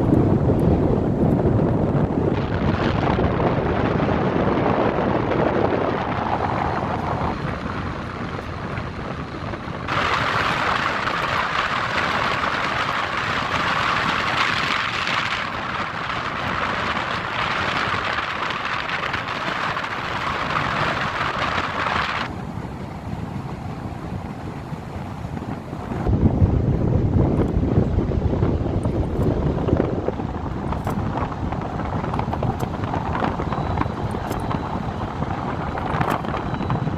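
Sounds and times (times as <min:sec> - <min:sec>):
city traffic: 0:00.0 - 0:03.5, 0:04.3 - 0:36.9
wind on microphone: 0:00.0 - 0:36.9.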